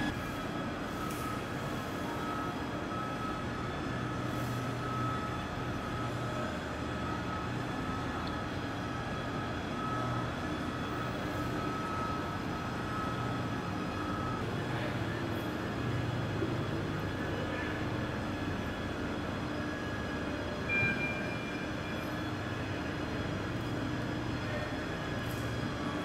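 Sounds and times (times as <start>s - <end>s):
mechanical hum with high whine: 0.0s - 26.0s.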